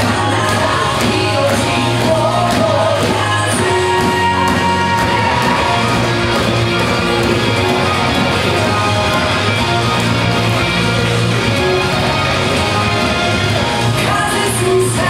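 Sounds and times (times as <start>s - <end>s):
rock song over loudspeakers: 0.0s - 15.0s.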